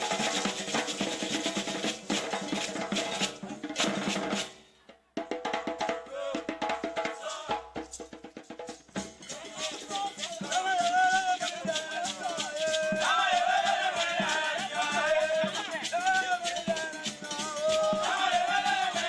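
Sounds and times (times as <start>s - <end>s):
shaker rattling: 0.0s - 4.2s, 7.2s - 19.0s
hand drums beating: 0.0s - 4.5s, 5.2s - 19.0s.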